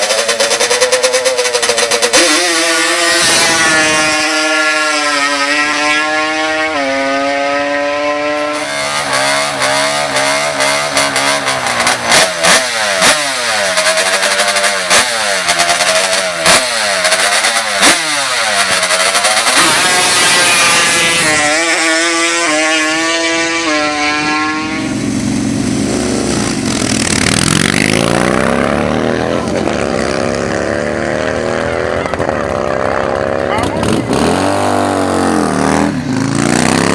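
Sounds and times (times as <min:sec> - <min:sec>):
atv engine revving: 0:00.0 - 0:36.9.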